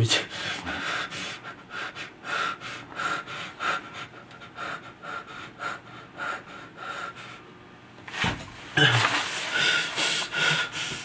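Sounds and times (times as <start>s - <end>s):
man panting: 0.0s - 7.4s, 8.8s - 11.0s.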